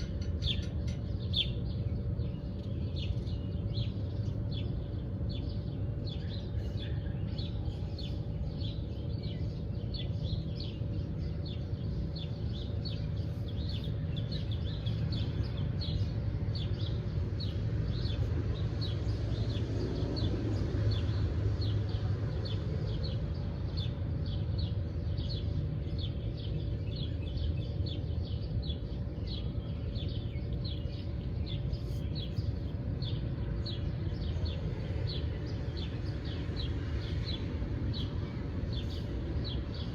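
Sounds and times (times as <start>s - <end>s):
birds chirping: 0.0s - 39.9s
faint steady hum: 0.0s - 39.9s
steady low rumble: 0.0s - 39.9s.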